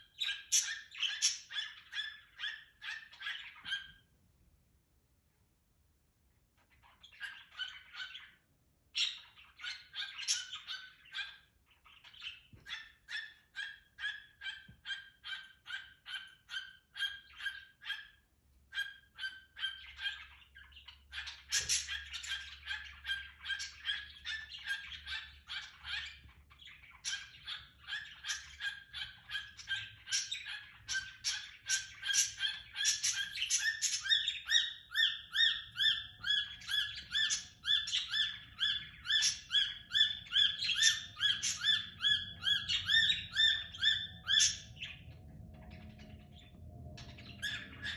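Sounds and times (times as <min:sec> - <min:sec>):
cockatiel chirping and whistling: 0:00.0 - 0:04.0, 0:06.8 - 0:08.4, 0:09.0 - 0:45.0, 0:47.0 - 0:47.9.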